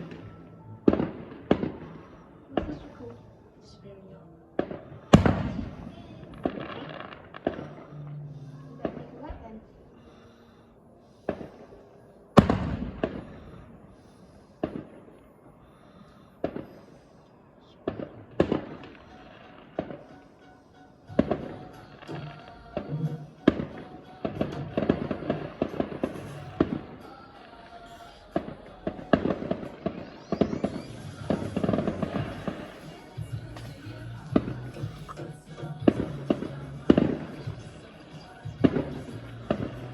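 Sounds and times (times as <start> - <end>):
fireworks bangs: 0.0 - 3.3, 4.6 - 10.2, 11.2 - 39.9.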